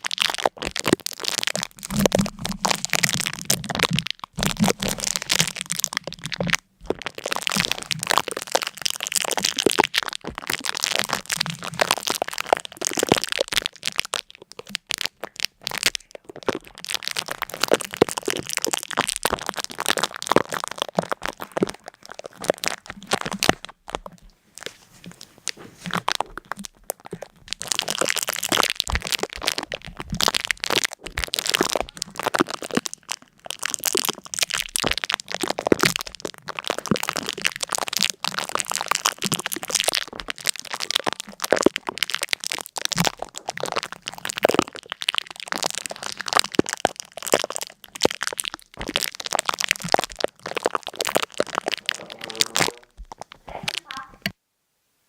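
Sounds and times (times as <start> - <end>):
dense irregular crackling: 0.0 - 54.4.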